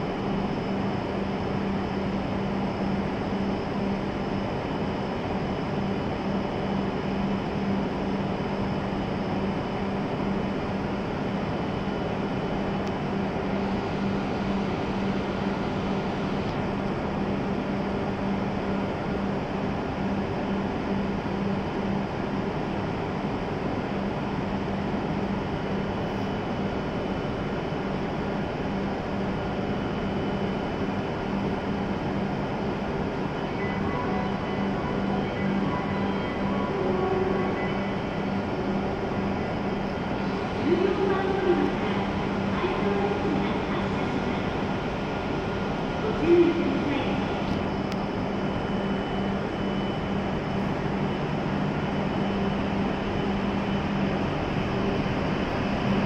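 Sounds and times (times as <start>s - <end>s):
train equipment humming and hissing: 0.0s - 56.0s.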